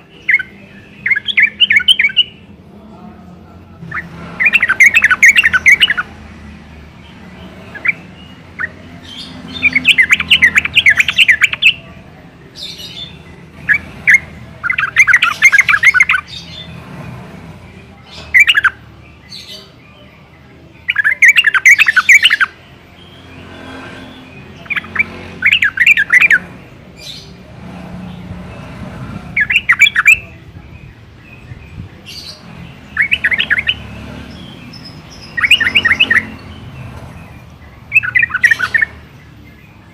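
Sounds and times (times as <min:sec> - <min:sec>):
bulbul singing chattering notes: 0:00.0 - 0:02.6, 0:03.7 - 0:06.2, 0:07.0 - 0:39.9.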